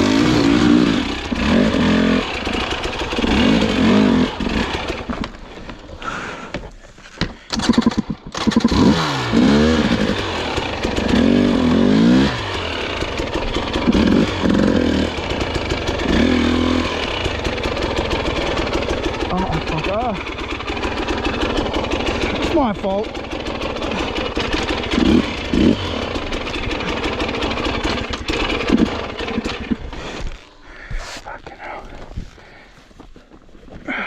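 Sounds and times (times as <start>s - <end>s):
dirt bike engine revving: 0.0s - 6.5s, 7.5s - 31.8s.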